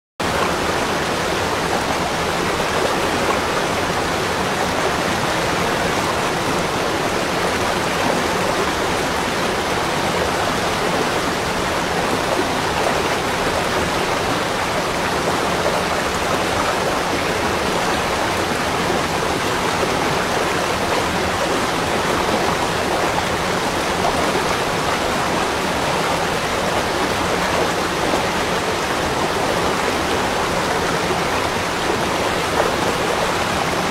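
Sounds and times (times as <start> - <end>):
rush of running water: 0.2 - 33.9.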